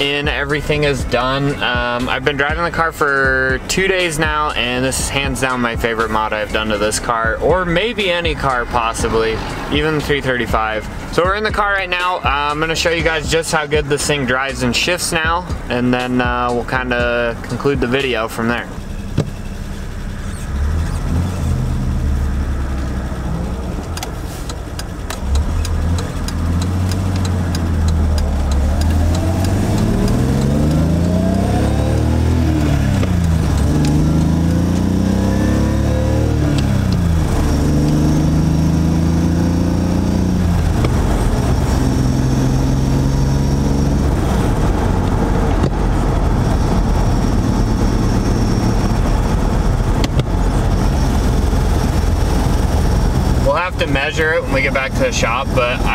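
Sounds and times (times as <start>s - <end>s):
car engine accelerating through gears: 0.0s - 55.9s.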